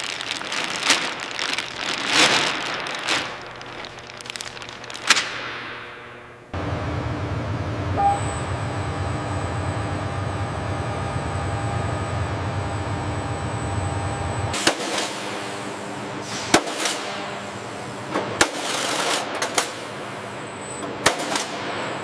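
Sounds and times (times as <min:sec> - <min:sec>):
low industrial hum: 0:00.0 - 0:22.0.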